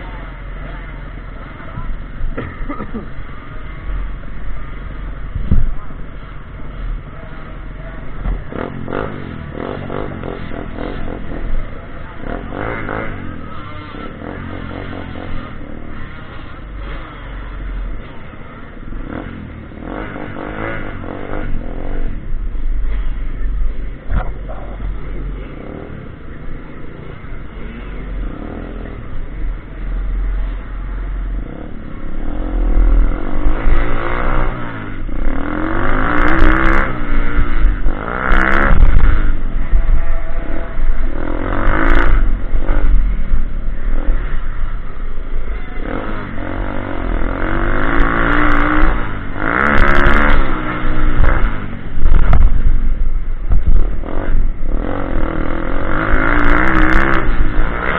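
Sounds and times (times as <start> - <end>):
pitbike engine revving: 7.7 - 57.9.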